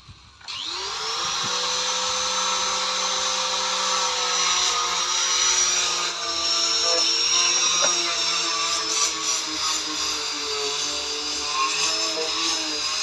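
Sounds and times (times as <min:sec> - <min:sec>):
power tool motor whining: 0:00.2 - 0:13.0.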